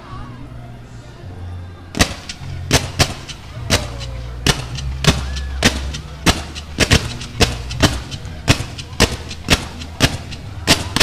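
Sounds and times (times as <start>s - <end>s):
steady low rumble: 1.8s - 11.0s
fireworks shells bursting: 2.0s - 11.0s.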